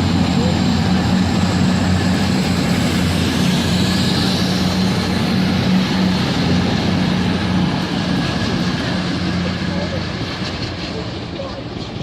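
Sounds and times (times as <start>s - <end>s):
diesel train engine running: 0.0s - 12.0s.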